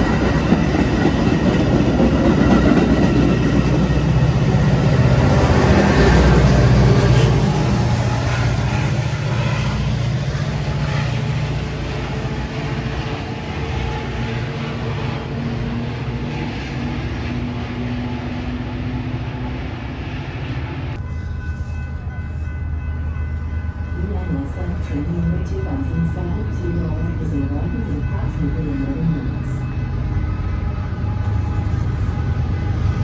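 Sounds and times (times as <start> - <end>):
diesel locomotive engine rumble: 0.0 - 33.0
train wheels on rails: 0.0 - 33.0.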